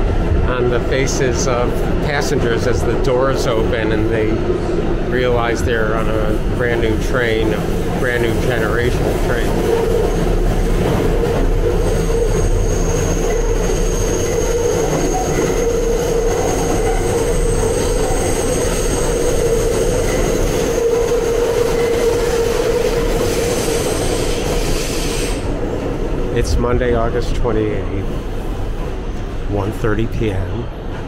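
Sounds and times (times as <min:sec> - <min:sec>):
subway car running: 0:00.0 - 0:31.0.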